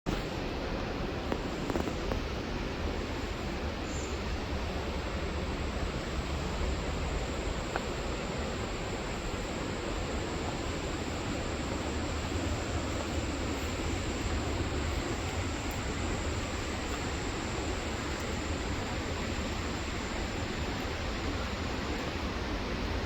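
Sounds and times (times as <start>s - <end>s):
waterfall roaring: 0.2s - 23.0s.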